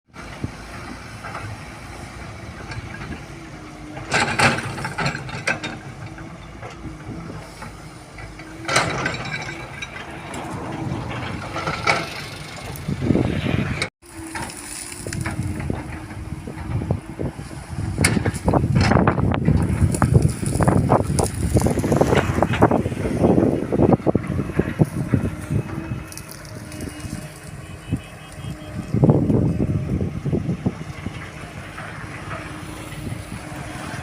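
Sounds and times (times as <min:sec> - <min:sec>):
excavator diesel engine running: 0:00.1 - 0:34.0
loud clanking and scraping: 0:02.5 - 0:27.9, 0:28.7 - 0:34.0.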